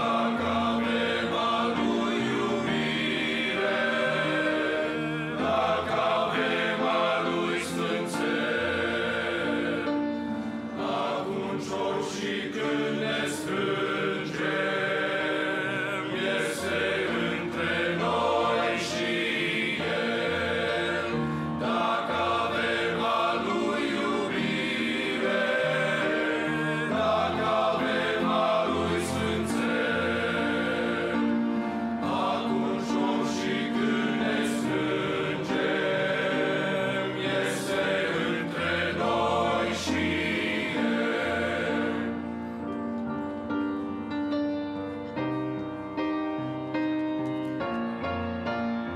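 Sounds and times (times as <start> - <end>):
men's choir singing a hymn: 0.0 - 44.1.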